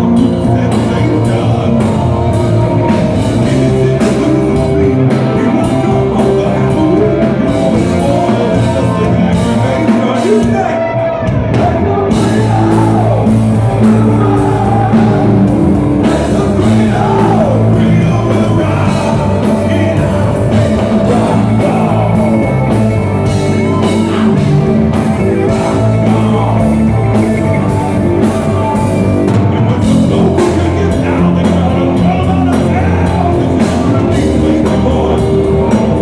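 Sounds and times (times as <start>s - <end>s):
live rock band playing: 0.0s - 36.0s
person singing: 0.0s - 36.0s.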